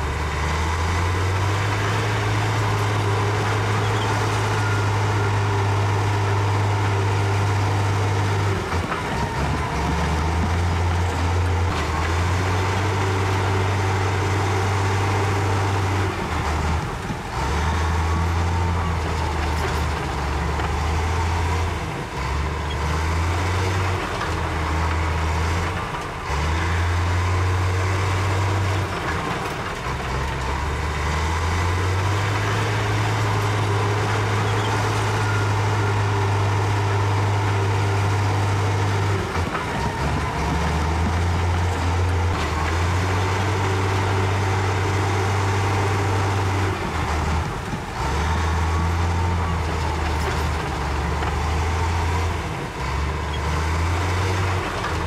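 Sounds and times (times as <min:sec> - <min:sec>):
bulldozer diesel engine under load: 0:00.0 - 0:55.0
dump truck engines running: 0:00.0 - 0:55.0.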